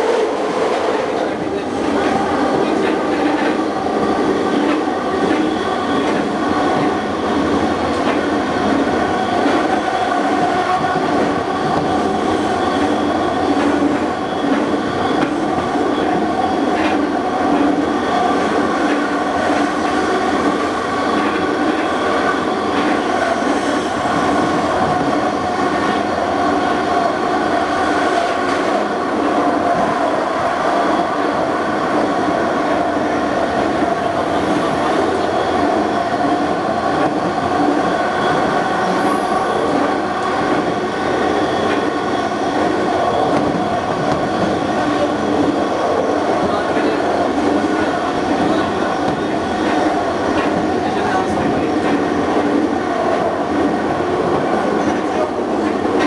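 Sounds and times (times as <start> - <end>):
train car running noise: 0.0 - 56.0.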